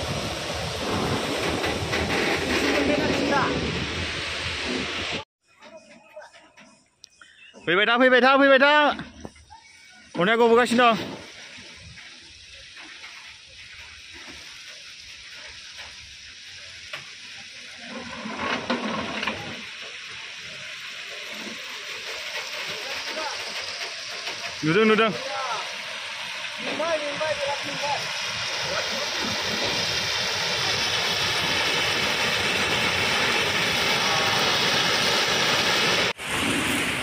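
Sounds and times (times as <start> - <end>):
train wheels hissing on rails: 0.0 - 5.2, 9.3 - 37.0.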